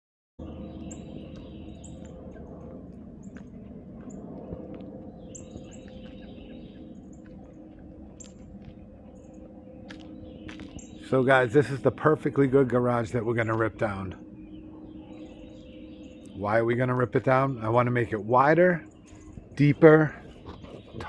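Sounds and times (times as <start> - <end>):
small birds chirping: 0.4 - 21.0
steady low hum: 0.4 - 21.0.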